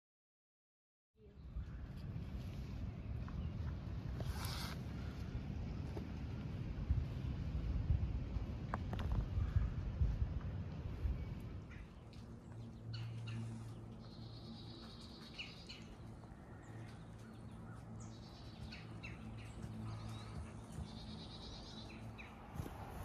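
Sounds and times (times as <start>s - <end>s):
songbirds chirping: 1.2s - 23.0s
steady low hum: 1.2s - 23.0s.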